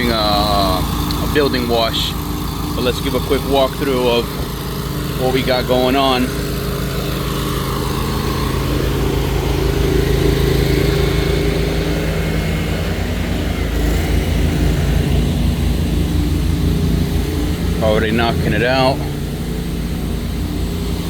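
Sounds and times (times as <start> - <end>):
pressure washer engine running: 0.0 - 21.0.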